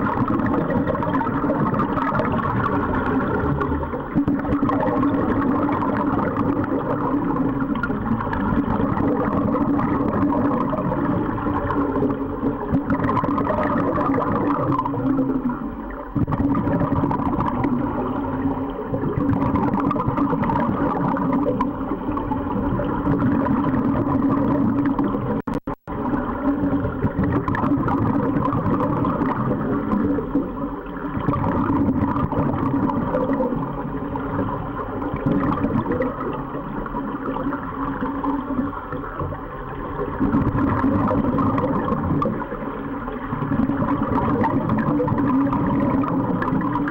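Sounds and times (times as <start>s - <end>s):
underwater water noise: 0.0s - 46.9s.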